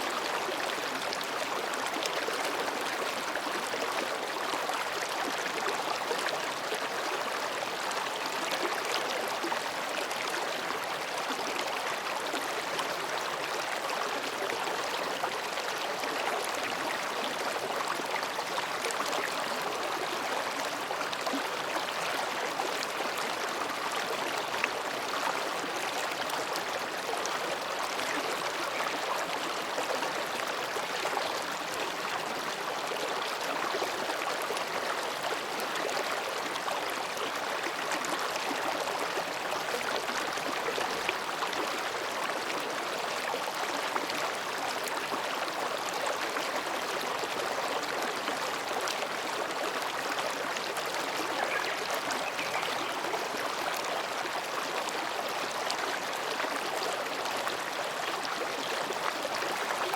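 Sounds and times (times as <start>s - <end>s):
mountain stream babbling: 0.0s - 59.9s.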